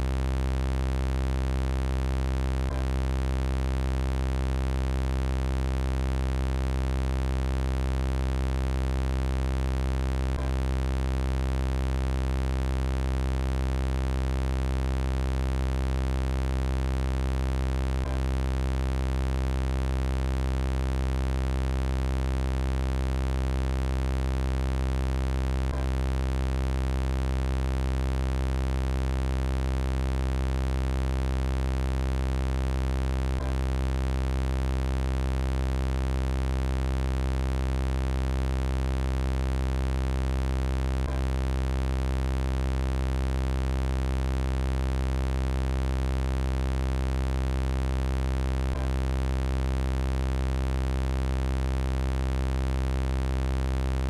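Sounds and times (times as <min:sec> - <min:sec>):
low electronic buzzing drone: 0:00.0 - 0:54.0.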